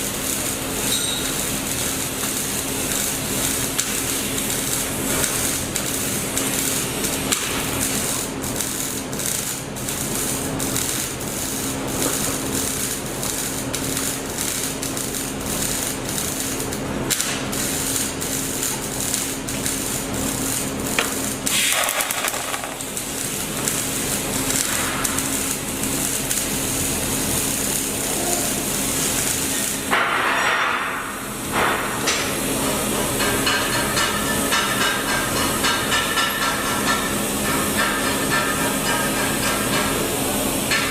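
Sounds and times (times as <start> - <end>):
welding arc crackling: 0.0 - 40.9.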